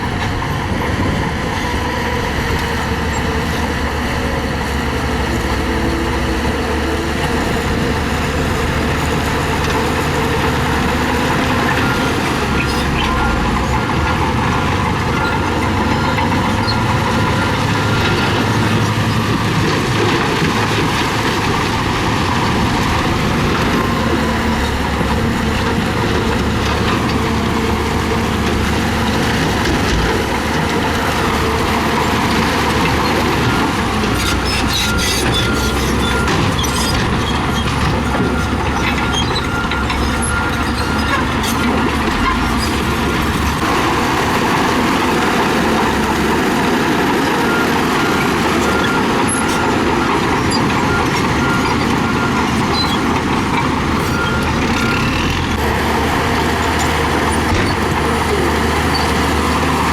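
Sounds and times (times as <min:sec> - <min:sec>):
diesel engine under load: 0:00.0 - 0:59.9
grinding rattle of stone and tracks: 0:00.0 - 0:59.9.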